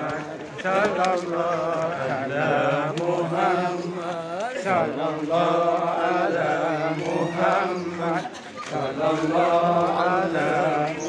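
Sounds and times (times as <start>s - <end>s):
voices chanting: 0.0s - 11.0s.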